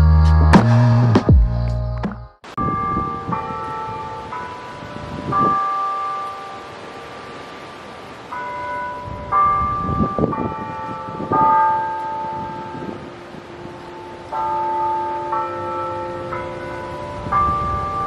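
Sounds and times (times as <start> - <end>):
tower bells chiming: 2.6 - 18.0.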